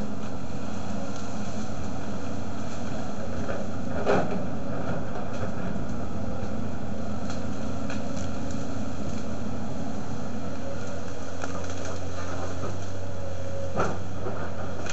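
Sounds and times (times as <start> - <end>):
excavator diesel engine running: 0.0 - 14.9
wood cracking: 0.0 - 14.9.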